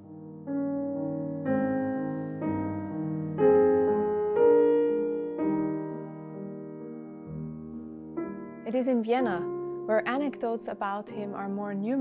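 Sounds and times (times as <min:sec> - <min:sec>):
solo piano playing slow chords: 0:00.0 - 0:12.0.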